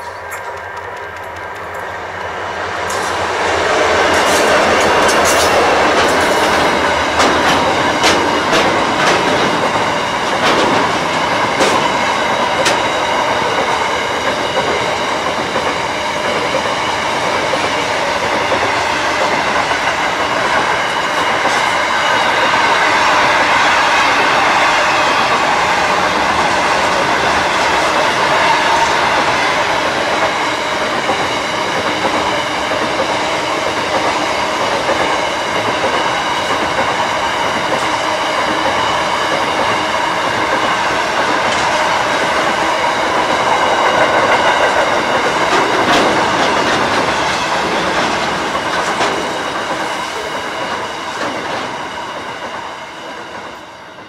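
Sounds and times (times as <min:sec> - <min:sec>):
diesel freight train passing: 0:00.0 - 0:54.0.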